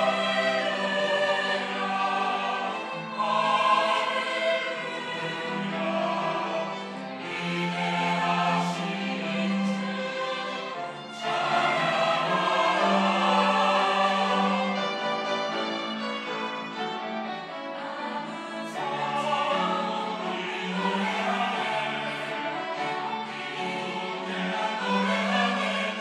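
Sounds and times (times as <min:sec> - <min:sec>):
choir singing sustained notes: 0:00.0 - 0:26.0.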